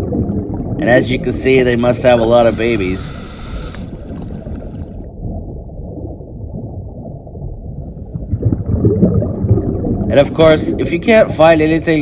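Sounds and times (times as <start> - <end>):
underwater rumble and gurgle: 0.0 - 12.0.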